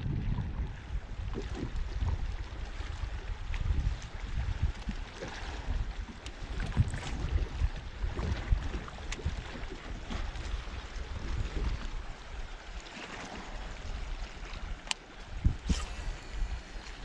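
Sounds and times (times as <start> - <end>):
wind buffeting microphone: 0.0 - 12.7, 13.4 - 17.0
water washing around boat: 0.0 - 17.0.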